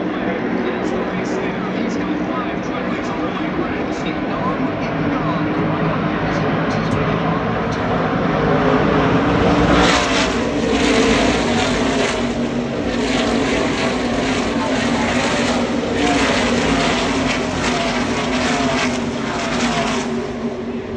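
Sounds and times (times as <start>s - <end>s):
race trucks passing at full throttle: 0.0s - 20.9s.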